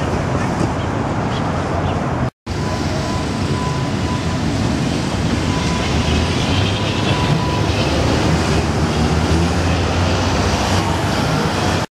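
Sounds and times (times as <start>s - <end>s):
city traffic: 0.0s - 11.9s
tram running on track: 0.0s - 11.9s.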